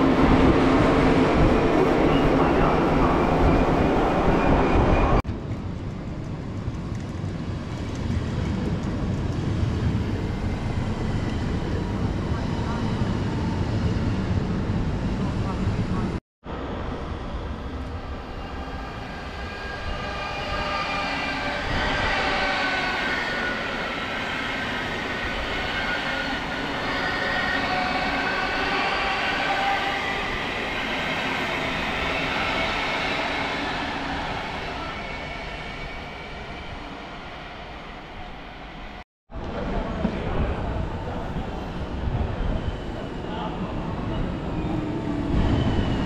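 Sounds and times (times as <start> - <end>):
train passing with whining tones: 0.0 - 46.0.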